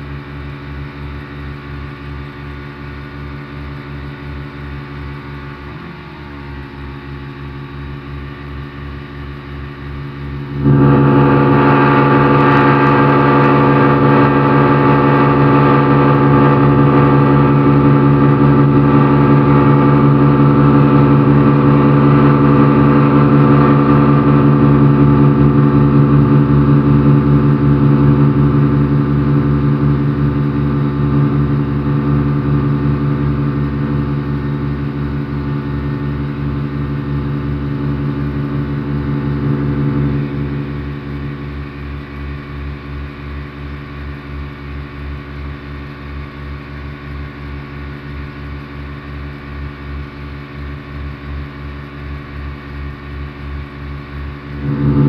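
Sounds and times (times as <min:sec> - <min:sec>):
outboard motors drone: 0:00.0 - 0:55.0.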